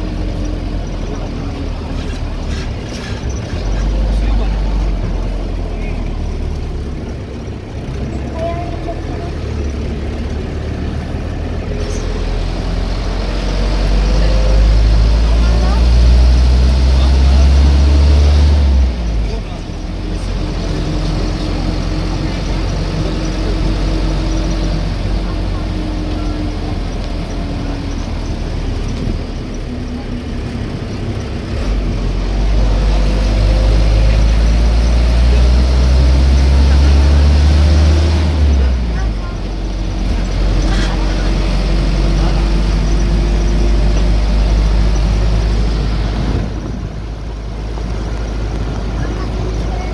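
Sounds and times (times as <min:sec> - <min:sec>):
road noise: 0:00.0 - 0:49.9
vehicle engine drone: 0:00.0 - 0:49.9.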